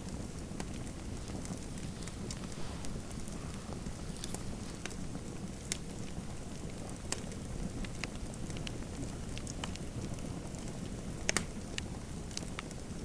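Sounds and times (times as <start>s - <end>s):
wood fire pops and snaps: 0.0s - 12.8s
fire crackling in a fireplace: 0.0s - 13.0s.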